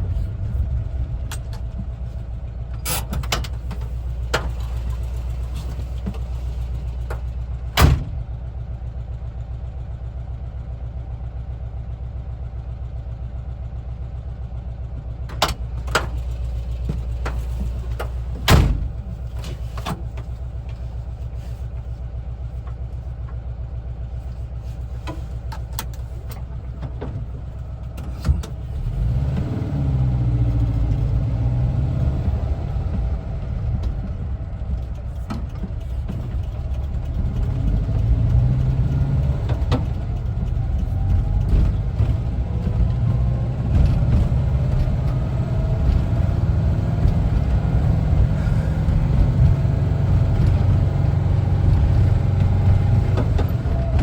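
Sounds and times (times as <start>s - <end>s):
road noise: 0.0s - 11.7s, 14.2s - 54.0s
van engine running: 0.0s - 54.0s.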